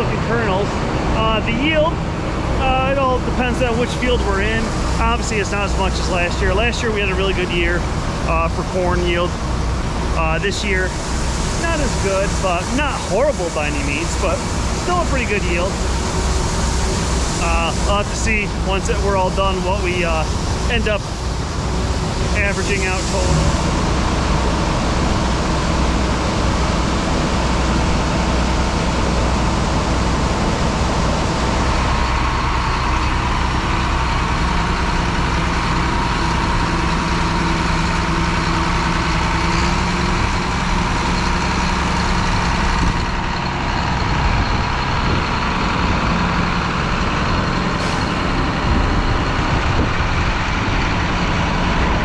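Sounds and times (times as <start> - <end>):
heavy engine droning: 0.0 - 52.0
steady engine whine: 0.0 - 52.0.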